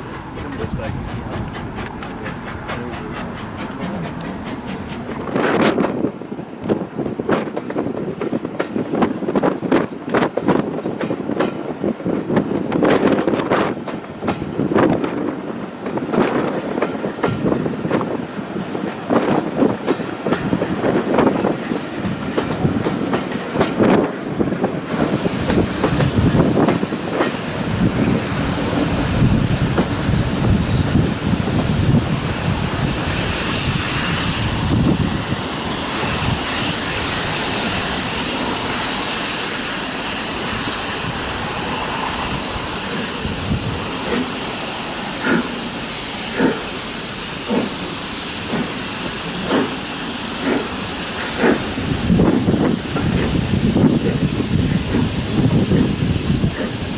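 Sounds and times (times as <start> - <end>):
loud hiss of steam: 0.0 - 56.9
train wheels clattering on rails: 0.0 - 56.9.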